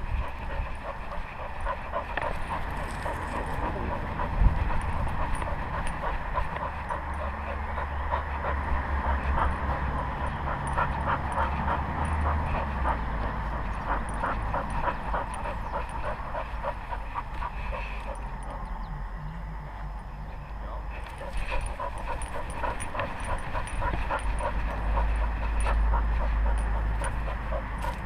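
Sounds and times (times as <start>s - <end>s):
dog breathing: 0.0s - 18.9s, 19.5s - 28.0s
low rumble of camera movement: 0.0s - 28.0s.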